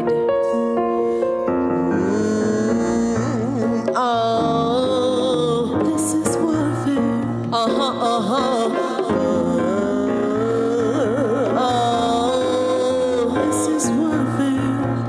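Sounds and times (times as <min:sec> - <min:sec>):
hand drum: 0:01.7 - 0:15.0.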